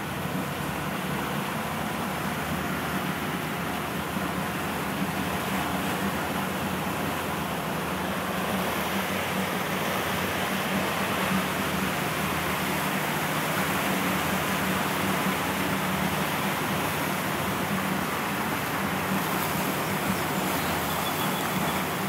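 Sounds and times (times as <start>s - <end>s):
boat engine drone: 0.0s - 22.0s
water rushing against hull: 0.0s - 22.0s.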